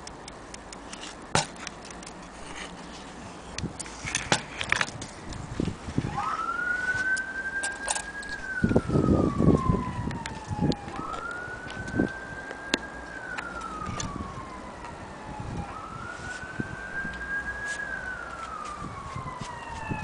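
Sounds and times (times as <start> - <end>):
emergency siren wailing: 3.4 - 20.0.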